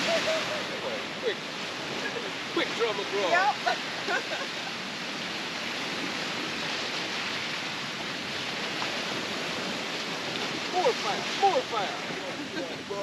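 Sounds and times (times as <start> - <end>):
surf rushing: 0.0 - 13.0
wind: 0.0 - 13.0.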